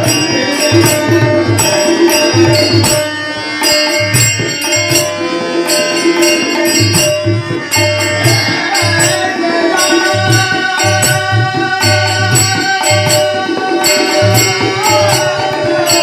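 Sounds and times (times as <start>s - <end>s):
bright percussion: 0.0s - 16.0s
tabla playing a rhythm: 0.0s - 16.0s.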